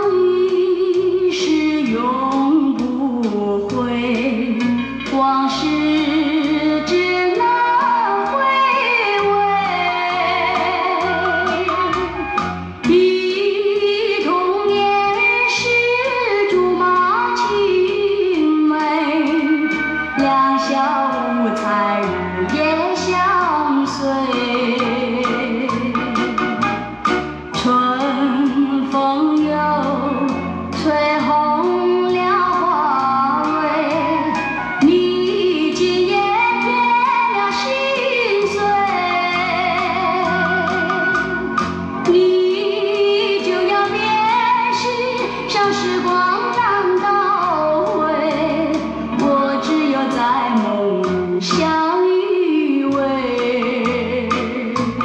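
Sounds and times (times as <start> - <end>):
woman singing slow melody: 0.0 - 26.2, 27.6 - 41.1, 42.1 - 55.0
instrumental backing: 0.0 - 55.0.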